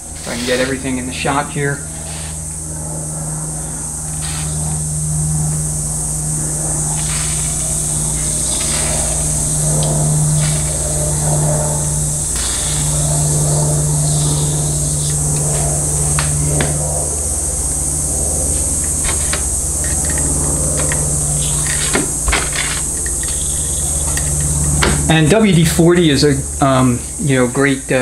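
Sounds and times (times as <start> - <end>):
high hiss: 0.0 - 28.0
low machine hum: 0.0 - 28.0.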